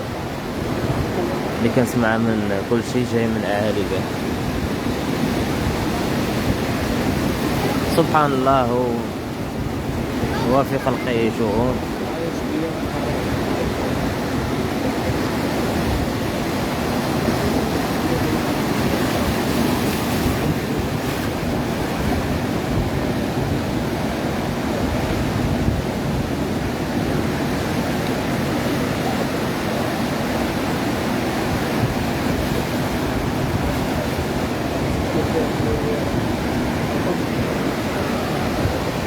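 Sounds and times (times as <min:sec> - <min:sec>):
surf washing onto beach: 0:00.0 - 0:39.0
wind on microphone: 0:03.9 - 0:08.2, 0:08.9 - 0:39.0.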